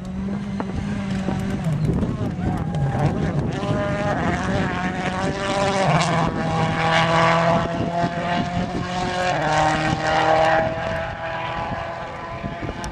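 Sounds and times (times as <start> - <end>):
rally car engine revving: 0.0 - 12.9.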